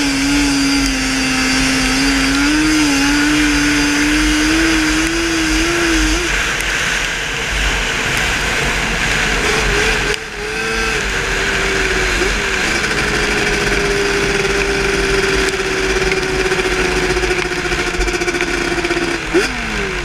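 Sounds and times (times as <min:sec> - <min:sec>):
quad engine revving high: 0:00.0 - 0:20.0.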